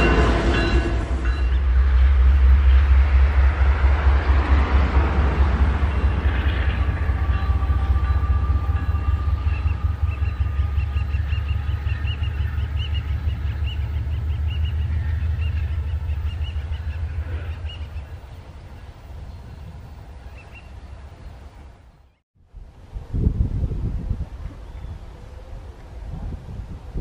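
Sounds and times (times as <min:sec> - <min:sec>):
locomotive engine rumble: 0:00.0 - 0:21.9
rolling rail noise: 0:00.0 - 0:23.1.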